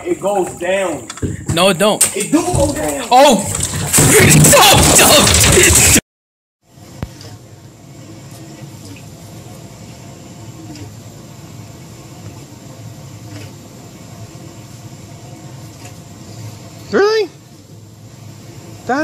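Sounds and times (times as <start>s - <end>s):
low background hum and hiss: 0.0s - 4.8s, 6.7s - 19.0s.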